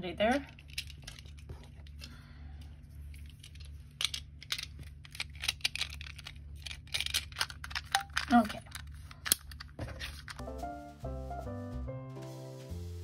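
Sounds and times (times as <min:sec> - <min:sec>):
low steady hum: 0:00.0 - 0:11.5.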